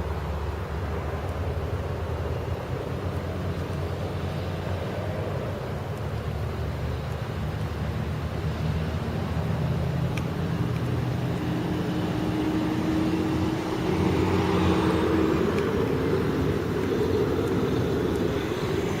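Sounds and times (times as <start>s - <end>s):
vehicles passing on wet road: 0.0s - 19.0s.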